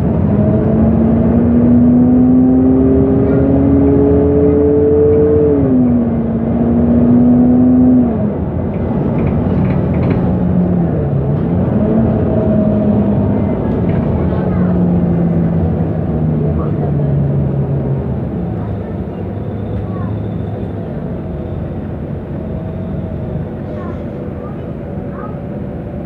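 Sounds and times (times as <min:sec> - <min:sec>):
bus engine pulling under load: 0:00.0 - 0:26.0.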